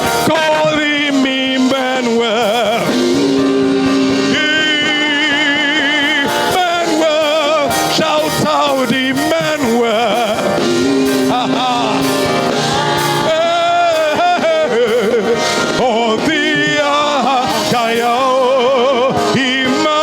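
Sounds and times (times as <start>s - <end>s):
person singing with vibrato: 0.0s - 20.0s
sustained held chords: 0.0s - 20.0s.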